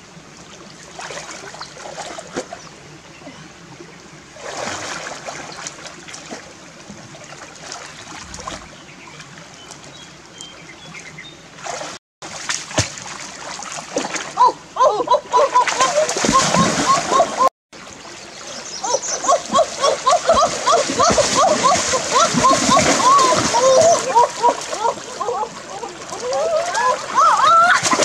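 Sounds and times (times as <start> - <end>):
water splashing from wading: 0.0 - 2.7, 3.6 - 28.0
stream trickling: 0.0 - 28.0.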